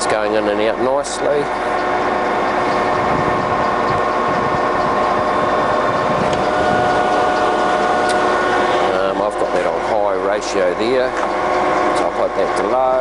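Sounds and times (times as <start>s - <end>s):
lathe gearing whine: 0.0s - 13.0s.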